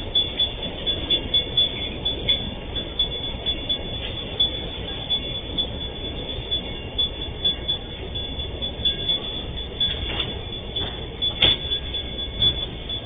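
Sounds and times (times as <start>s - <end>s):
freight wagons rumbling on rails: 0.0s - 13.0s.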